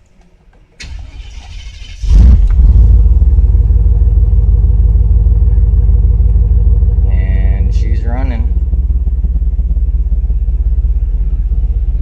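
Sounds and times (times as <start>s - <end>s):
pickup engine starting and idling: 0.8s - 12.0s.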